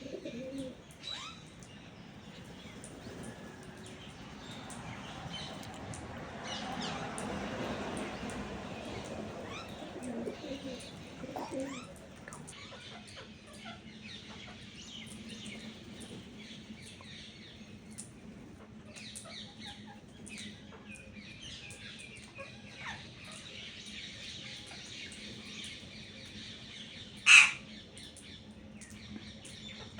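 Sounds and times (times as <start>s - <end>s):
birds chirping and chattering: 0.0s - 29.9s.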